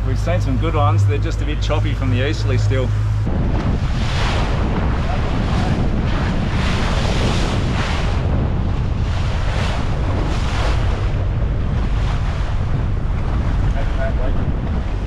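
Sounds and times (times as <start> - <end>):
waves washing and splashing: 0.0 - 15.0
wind buffeting microphone: 0.0 - 15.0.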